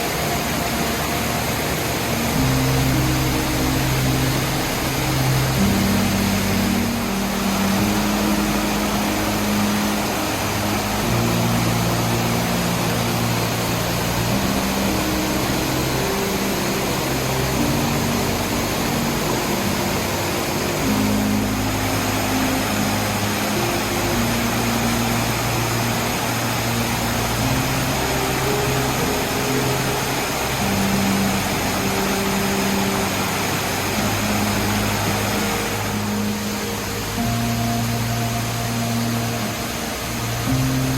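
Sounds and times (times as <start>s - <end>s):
slow background music: 0.0s - 40.9s
waterfall rushing: 0.0s - 40.9s.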